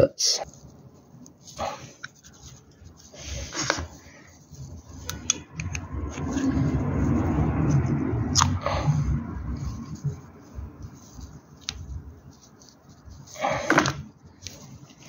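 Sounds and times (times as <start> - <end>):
rubber rubbing: 0.4 - 15.0.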